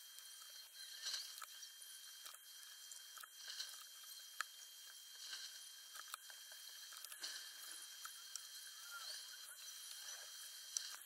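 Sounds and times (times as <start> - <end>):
faint small clicks and ticks: 0.0 - 11.0
high-pitched whine: 0.0 - 11.0
light hiss: 0.0 - 11.0.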